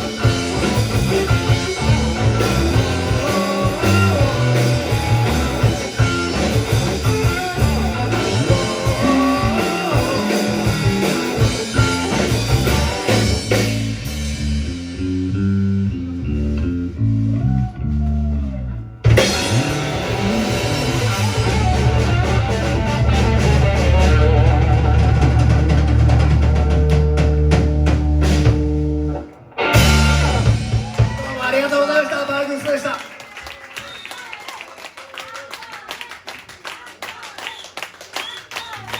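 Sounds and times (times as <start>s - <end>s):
electric guitar: 0.0s - 31.5s
bass guitar: 0.0s - 32.0s
drum kit: 0.0s - 32.3s.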